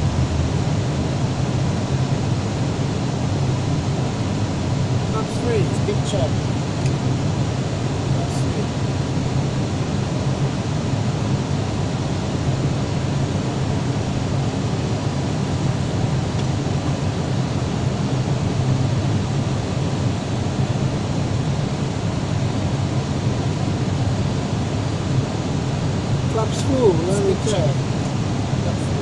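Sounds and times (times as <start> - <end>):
airliner cabin noise: 0.0 - 29.0.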